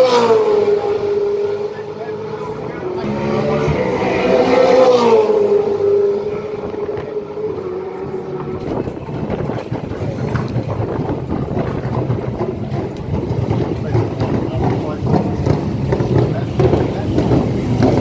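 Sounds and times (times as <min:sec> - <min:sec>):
race car engines rolling slowly: 0:00.0 - 0:18.0
race car passing: 0:00.0 - 0:18.0.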